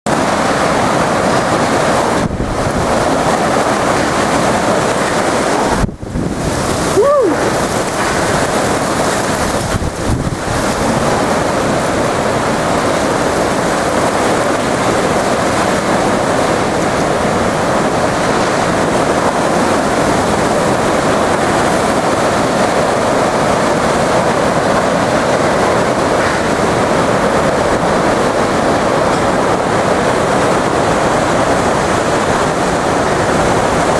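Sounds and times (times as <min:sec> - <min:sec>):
strong wind through trees: 0:00.1 - 0:33.9
wind buffeting microphone: 0:00.1 - 0:33.9
wind howling through power lines: 0:00.1 - 0:33.9.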